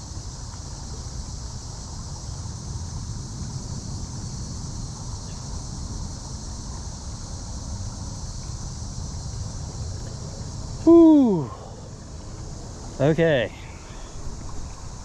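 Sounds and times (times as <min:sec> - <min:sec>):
creek water running: 0:00.0 - 0:15.0
wind rumbling on microphone: 0:00.0 - 0:15.0.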